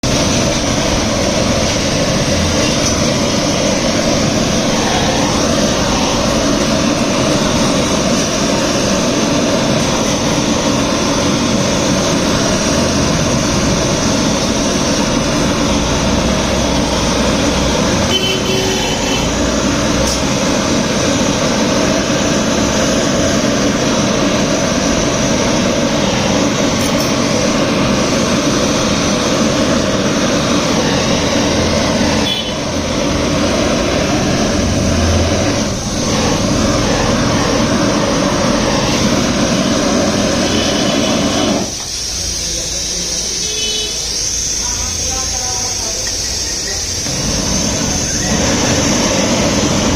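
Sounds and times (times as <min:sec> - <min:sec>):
loud mechanical rushing noise: 0:00.0 - 0:49.9.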